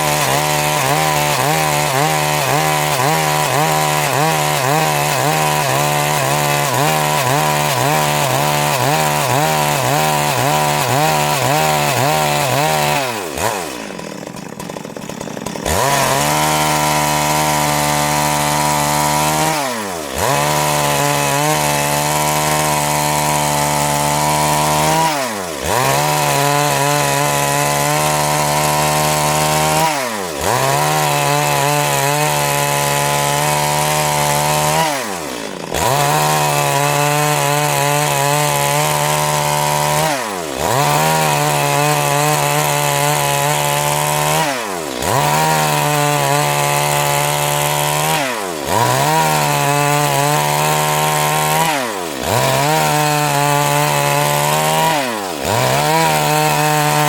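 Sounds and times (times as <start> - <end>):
chainsaw sawing wood: 0.0 - 57.0.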